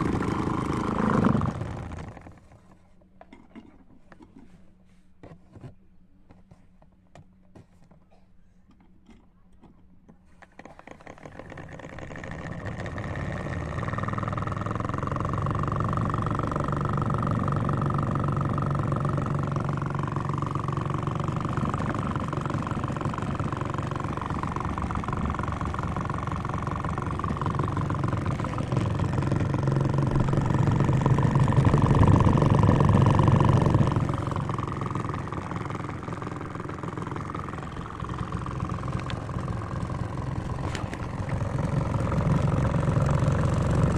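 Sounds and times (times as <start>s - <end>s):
washing machine motor humming: 0.0s - 2.4s, 11.0s - 43.9s.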